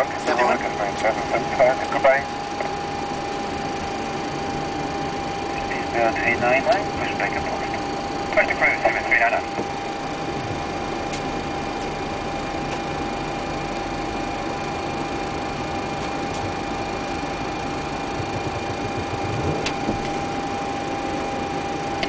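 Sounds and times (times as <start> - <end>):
cockpit air hum and rush: 0.0 - 13.1, 14.1 - 22.0
high whine: 0.0 - 22.0.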